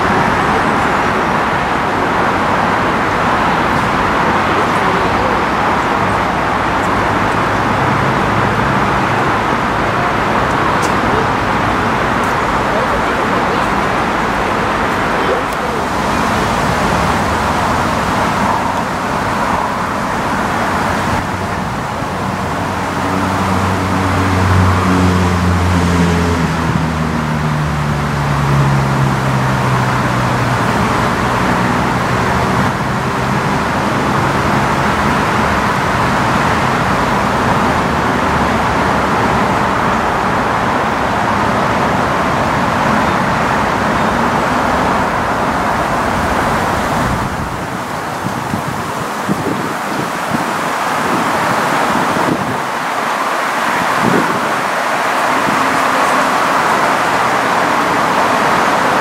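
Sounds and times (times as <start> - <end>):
passing engine hum: 0.0 - 59.0
road traffic noise: 0.0 - 59.0.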